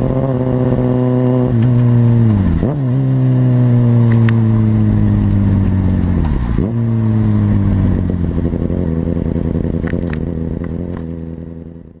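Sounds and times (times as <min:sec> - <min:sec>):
exhaust popping and crackling: 0:00.0 - 0:12.0
motorcycle engine revving: 0:00.0 - 0:12.0.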